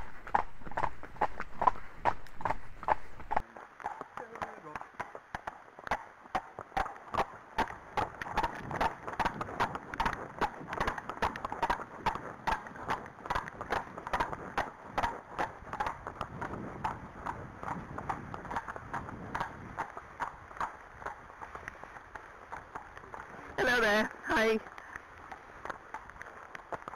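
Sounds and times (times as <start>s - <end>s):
horse hooves clattering on tarmac: 0.0s - 26.9s.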